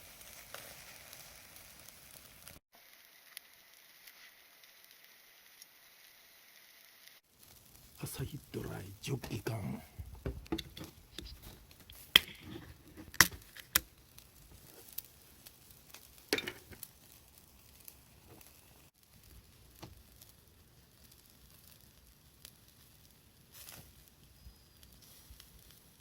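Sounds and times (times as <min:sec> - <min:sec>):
beer can cracking open with hiss: 0:00.0 - 0:05.7, 0:07.0 - 0:26.0
skewers sizzling on charcoal: 0:00.0 - 0:26.0.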